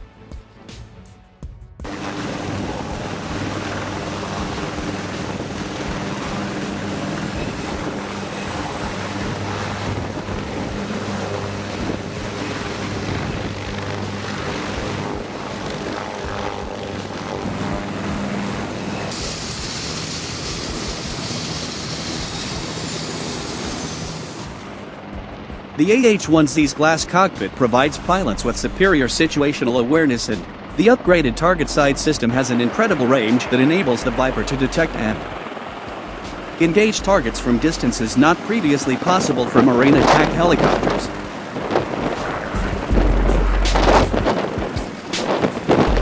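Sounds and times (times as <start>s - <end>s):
helicopter rotor and engines: 1.8s - 46.0s
high turbine whine: 1.8s - 46.0s.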